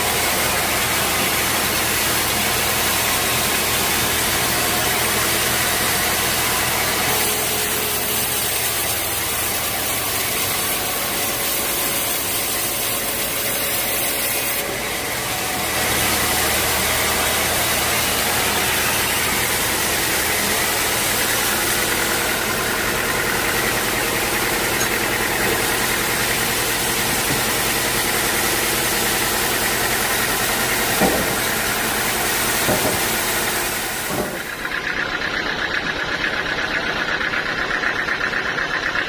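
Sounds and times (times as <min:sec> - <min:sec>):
sawmill machinery humming: 0:00.0 - 0:39.0.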